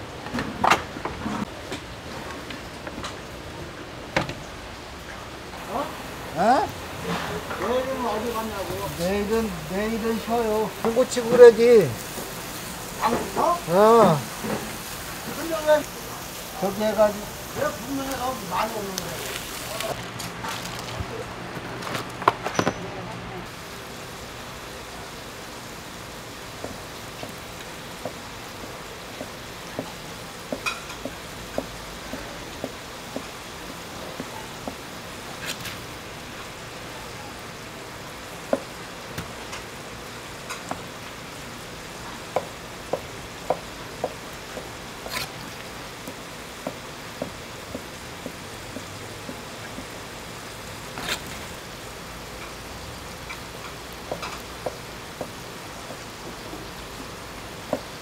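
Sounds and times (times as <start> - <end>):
meat sizzling on griddle: 5.6 - 21.2, 23.4 - 58.0.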